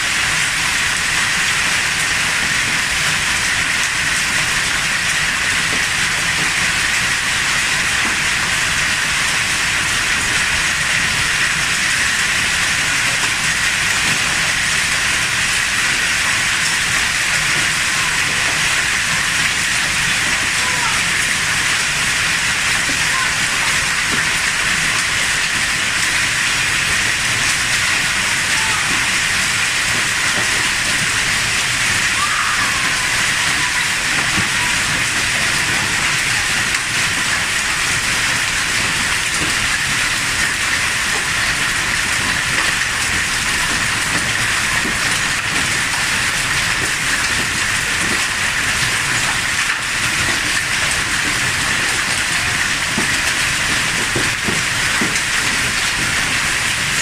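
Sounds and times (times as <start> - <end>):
hail falling: 0.0 - 57.0.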